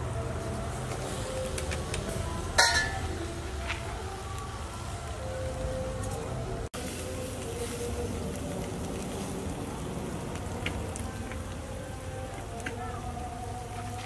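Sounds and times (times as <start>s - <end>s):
fish sizzling on grill: 0.0s - 14.0s
fire crackling and popping: 0.1s - 14.0s.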